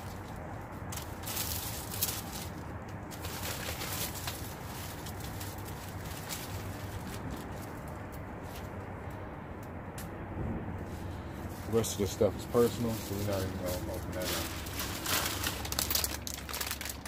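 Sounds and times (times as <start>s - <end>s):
storage bags rustling: 0.0s - 8.7s, 11.5s - 17.0s.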